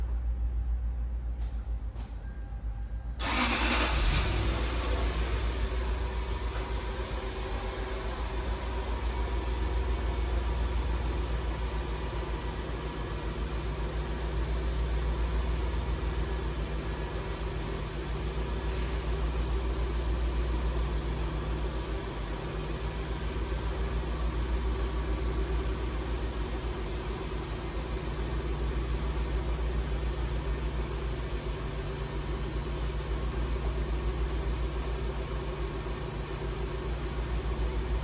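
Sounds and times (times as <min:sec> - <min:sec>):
car engine idling: 0:03.2 - 0:38.0.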